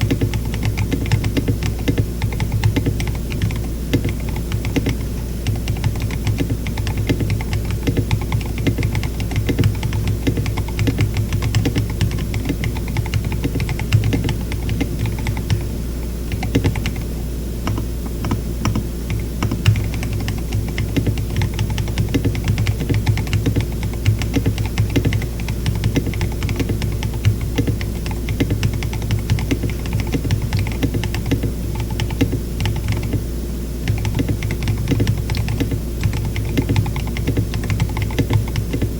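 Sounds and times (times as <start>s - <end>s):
low steady hum: 0.0s - 38.9s
mechanical keyboard typing: 0.0s - 38.9s.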